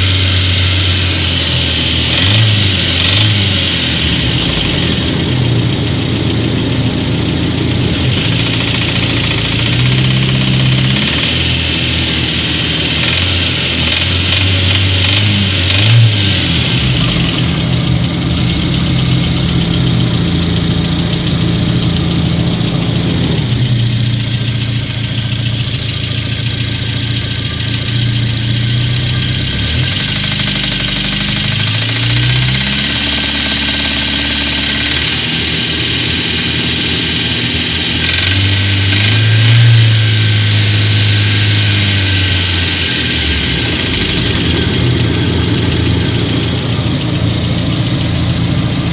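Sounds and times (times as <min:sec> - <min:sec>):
engine knocking: 0:00.0 - 0:48.9
engine revving: 0:00.0 - 0:48.9.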